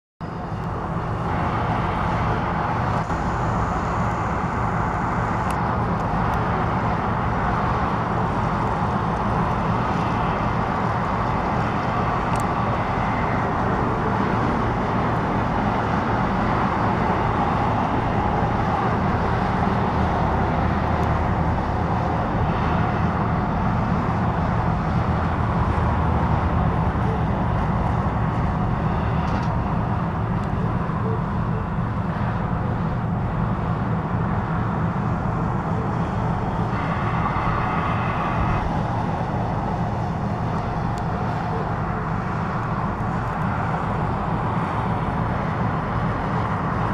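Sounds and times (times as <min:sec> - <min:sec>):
diesel locomotive engine droning: 0:00.2 - 0:46.9.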